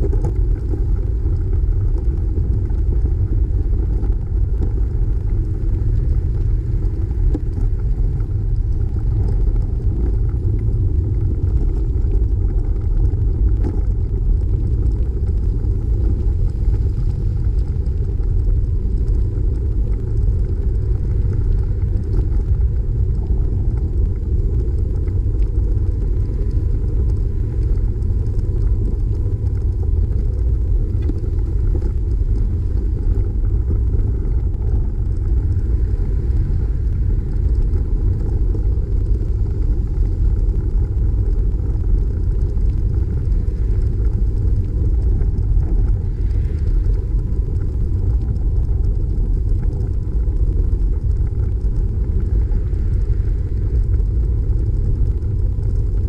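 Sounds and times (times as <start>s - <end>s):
bicycle tyre and road noise: 0.0s - 56.0s
wind buffeting microphone: 0.0s - 56.0s.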